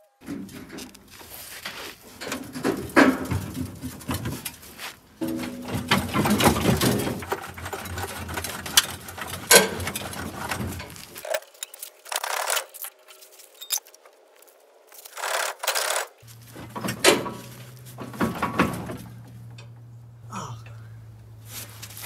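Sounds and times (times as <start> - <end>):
metal clinks and scrapes: 0.2 - 13.9, 14.9 - 19.8.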